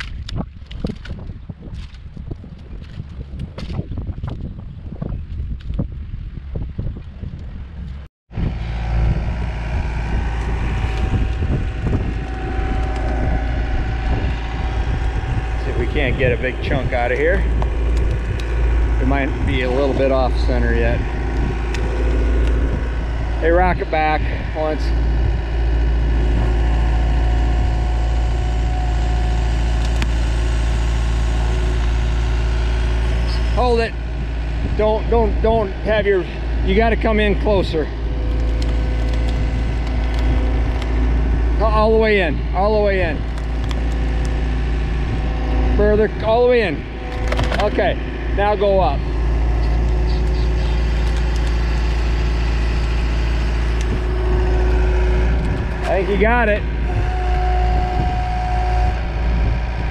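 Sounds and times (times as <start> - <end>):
engine droning steadily: 0.0 - 59.9
faint high whine: 8.4 - 59.9.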